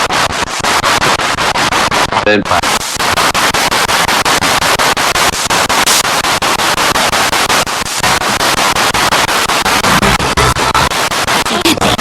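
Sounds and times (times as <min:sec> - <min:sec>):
radio static in short bursts: 0:00.0 - 0:12.0.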